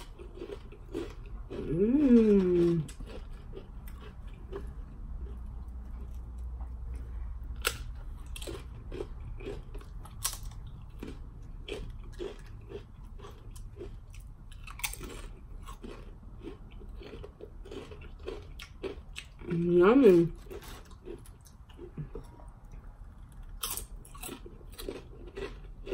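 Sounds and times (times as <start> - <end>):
chips crunching while chewed: 0.0 - 25.9.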